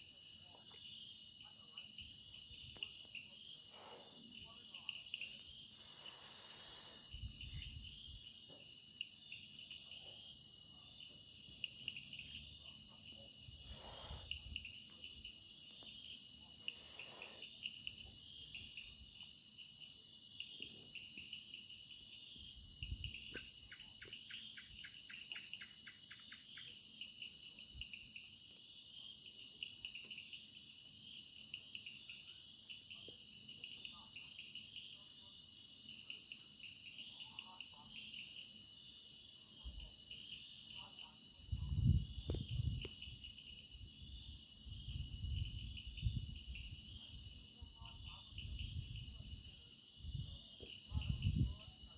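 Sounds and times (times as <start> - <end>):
crickets and insects chirring: 0.0 - 51.9.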